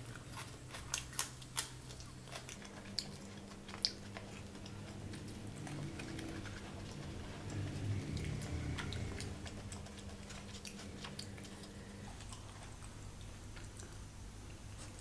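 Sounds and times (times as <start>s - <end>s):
chewing with mouth closed: 0.0s - 15.0s.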